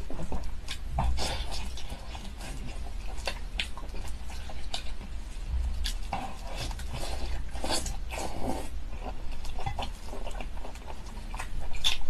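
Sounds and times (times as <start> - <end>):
wet sticky chewing: 0.0 - 12.0.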